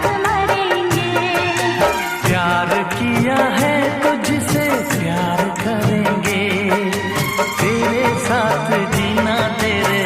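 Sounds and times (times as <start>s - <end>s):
pop song with singing and beat: 0.0s - 10.0s.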